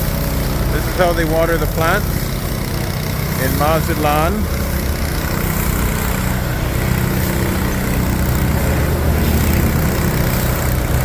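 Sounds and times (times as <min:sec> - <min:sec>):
truck engine and water pump drone: 0:00.0 - 0:11.0.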